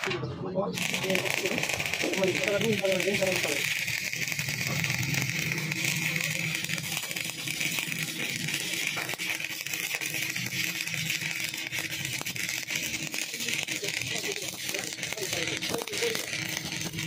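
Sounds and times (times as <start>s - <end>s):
welding arc crackling and sizzling: 0.7s - 17.0s.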